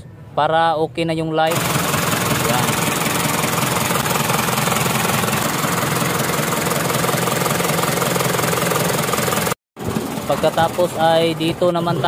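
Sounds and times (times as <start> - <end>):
diesel engine idling: 1.5 - 12.0.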